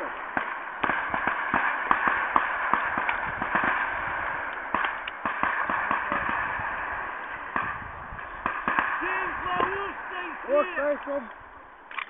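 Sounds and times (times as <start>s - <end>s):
gunshots: 0.0s - 11.3s.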